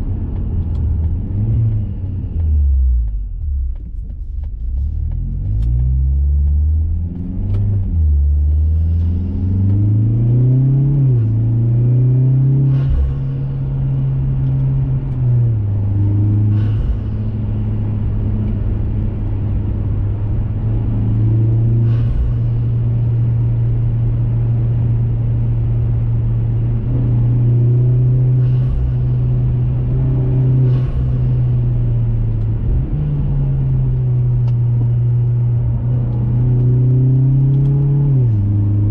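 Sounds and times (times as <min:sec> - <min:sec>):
car engine accelerating and cruising: 0:00.0 - 0:38.9.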